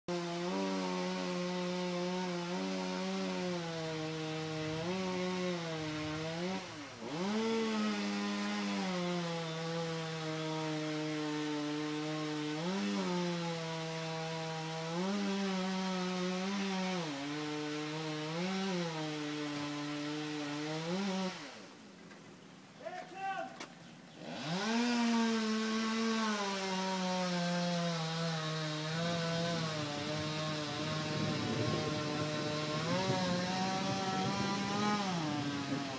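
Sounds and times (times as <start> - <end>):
chainsaw cutting at high revs: 0.1 - 21.8, 24.1 - 35.9.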